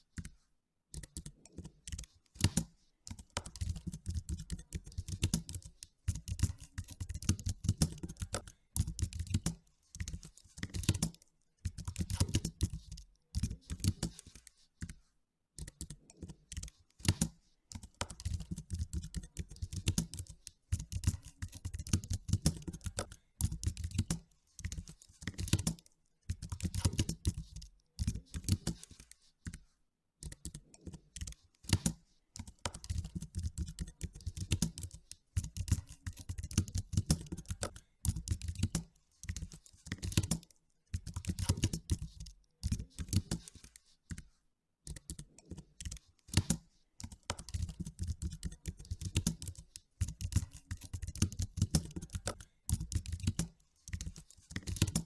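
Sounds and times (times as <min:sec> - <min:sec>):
keyboard typing: 0:00.0 - 0:15.0, 0:15.6 - 0:55.0.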